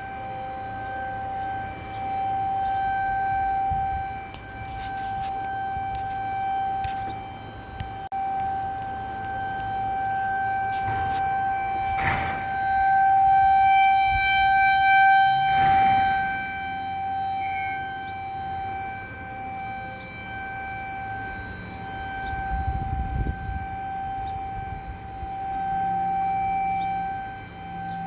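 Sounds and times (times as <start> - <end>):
warning siren steady tone: 0.0 - 28.0.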